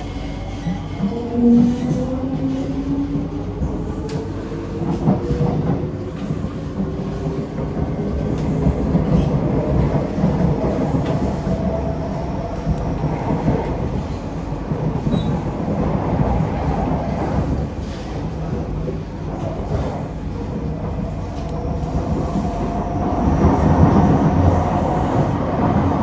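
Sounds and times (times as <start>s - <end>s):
wheels rumbling on track: 0.0s - 26.0s.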